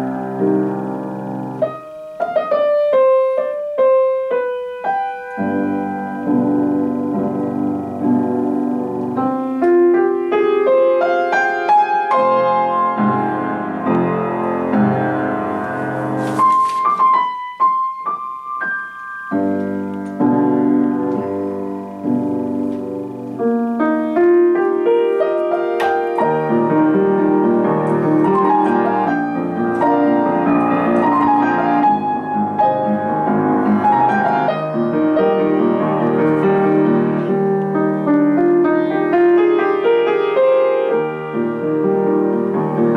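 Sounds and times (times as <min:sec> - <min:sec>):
classical piano chords: 0:00.0 - 0:42.9.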